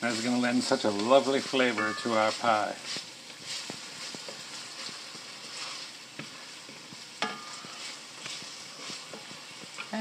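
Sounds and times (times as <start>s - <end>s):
vegetables sizzling in oil: 0.0s - 10.0s
wooden spoon scraping a pan: 0.0s - 10.0s.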